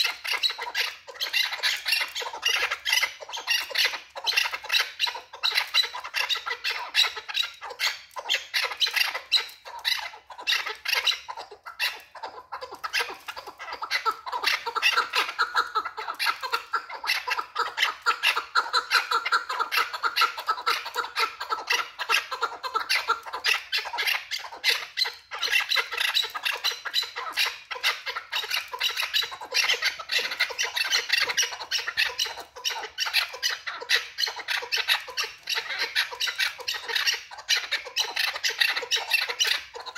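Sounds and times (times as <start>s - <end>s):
partridge calling: 0.0s - 39.9s.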